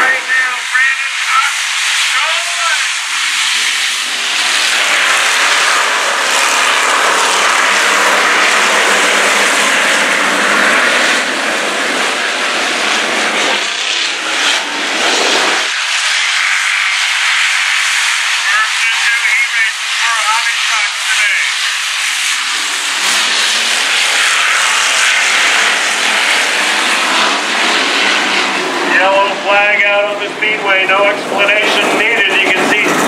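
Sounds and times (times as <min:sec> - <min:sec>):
race car engines droning: 0:00.0 - 0:33.0.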